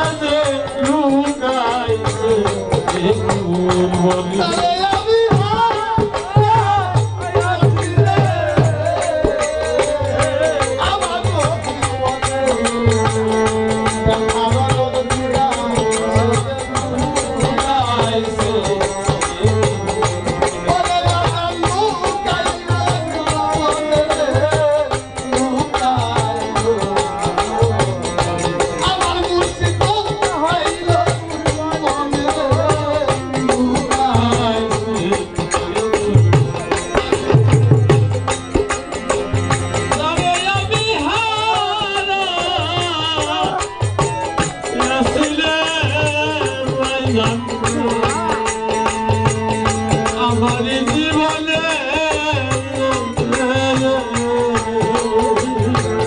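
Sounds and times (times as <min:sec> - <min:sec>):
folk melody line: 0:00.0 - 0:56.0
low drum beats: 0:00.0 - 0:56.0.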